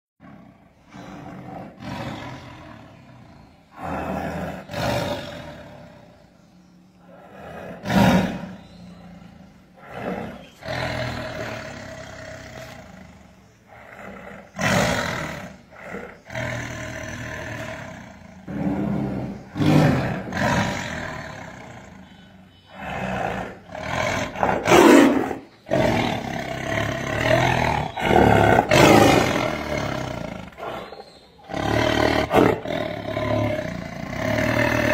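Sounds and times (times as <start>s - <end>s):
tiger roaring: 0.2s - 6.3s, 7.0s - 34.9s.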